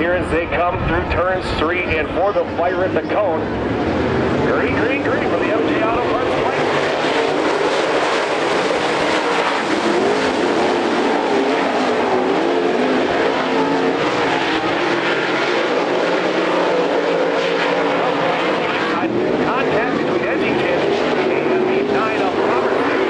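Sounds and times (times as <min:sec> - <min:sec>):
race car engines running hard: 0:00.0 - 0:23.0.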